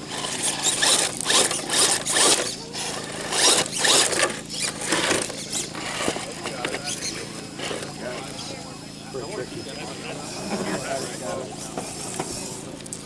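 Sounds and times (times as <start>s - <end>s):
electric motor and gears whirring: 0.0s - 13.0s.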